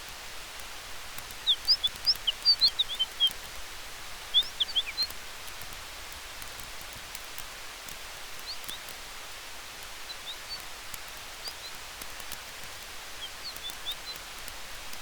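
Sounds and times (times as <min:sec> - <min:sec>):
campfire crackling: 0:00.0 - 0:15.0
wind through trees: 0:00.0 - 0:15.0.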